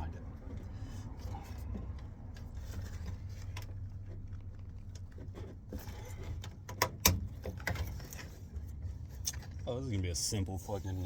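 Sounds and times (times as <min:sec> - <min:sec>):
faint clicks and handling sounds: 0:00.1 - 0:10.8.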